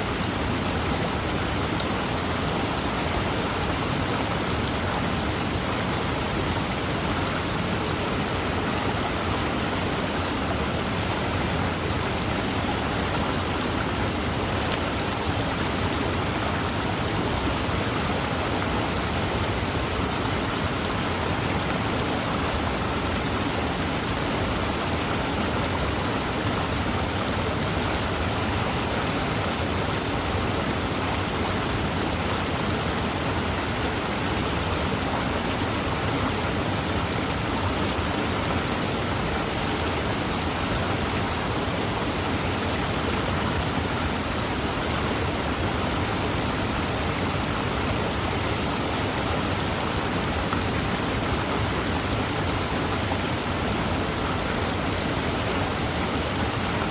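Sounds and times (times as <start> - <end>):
fast river rushing: 0.0 - 56.9.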